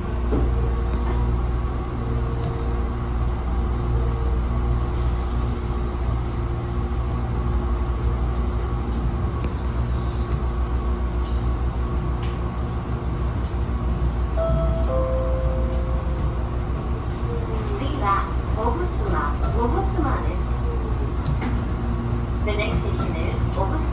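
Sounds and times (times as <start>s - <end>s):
train rumbling and humming: 0.0s - 23.9s.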